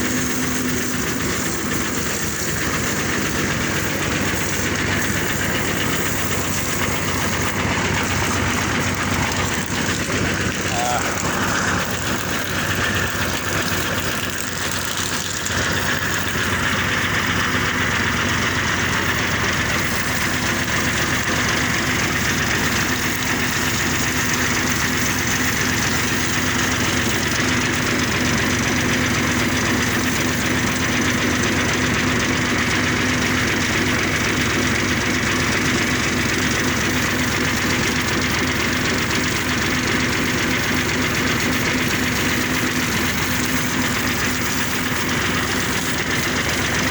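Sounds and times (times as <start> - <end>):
engine humming steadily: 0.0 - 46.9.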